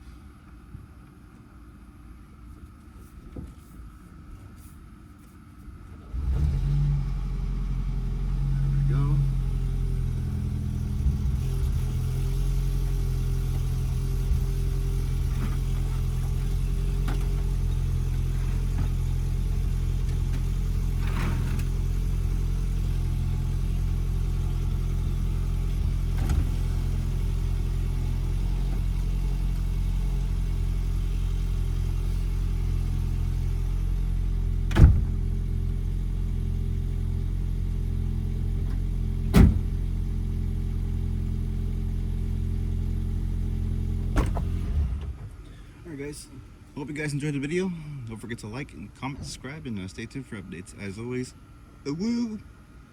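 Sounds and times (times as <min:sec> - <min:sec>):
car engine idling hum: 0:00.0 - 0:52.9.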